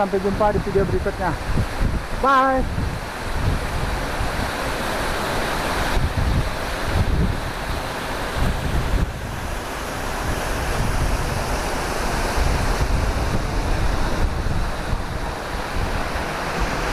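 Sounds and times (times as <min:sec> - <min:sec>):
waterfall rushing: 0:00.0 - 0:16.9
wind on microphone: 0:00.0 - 0:16.9.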